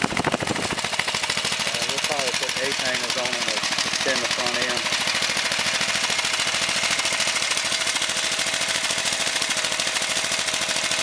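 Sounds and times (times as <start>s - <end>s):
small engine popping exhaust: 0.0s - 11.0s.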